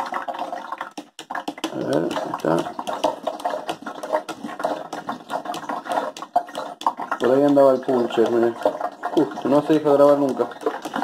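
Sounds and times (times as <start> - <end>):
gravel rattling in plastic tube: 0.0 - 11.0
gravel siphon sucking water: 0.0 - 11.0.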